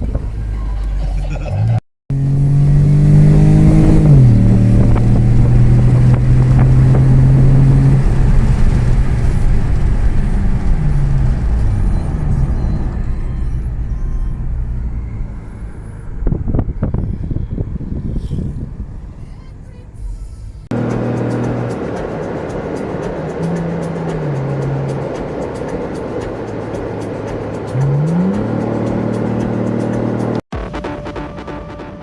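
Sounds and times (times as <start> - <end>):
car engine running hard: 0.0 - 30.4.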